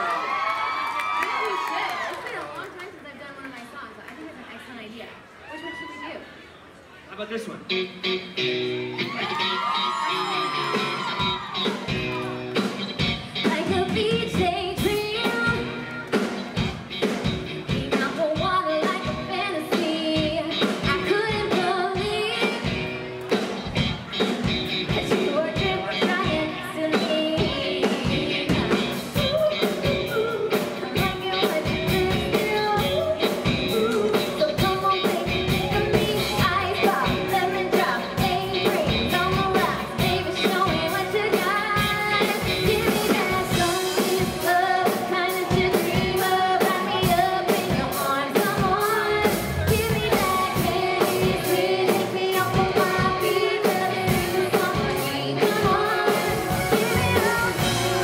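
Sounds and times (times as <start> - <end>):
bass guitar: 7.7 - 58.0
electric guitar: 7.7 - 58.0
drum kit: 8.9 - 58.0
woman singing lead: 9.0 - 23.1, 23.8 - 58.0.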